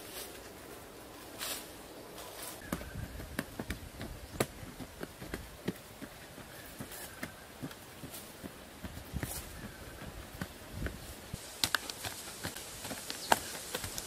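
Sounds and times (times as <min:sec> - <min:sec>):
loose earth scraping: 0:00.0 - 0:14.0.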